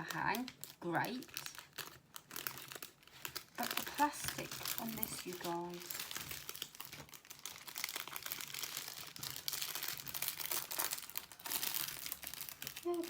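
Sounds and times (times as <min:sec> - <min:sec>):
plastic film crinkling: 0:00.0 - 0:13.0.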